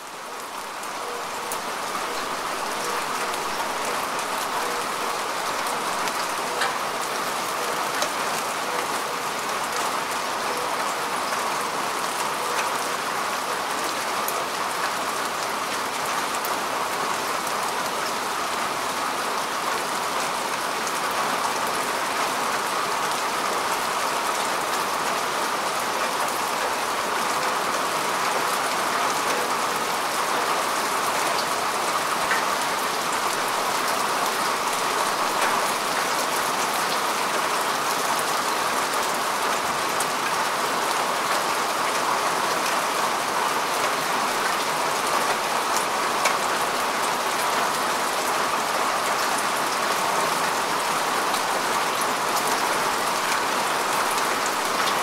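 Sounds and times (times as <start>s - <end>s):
rain falling on grass: 0.0s - 55.0s.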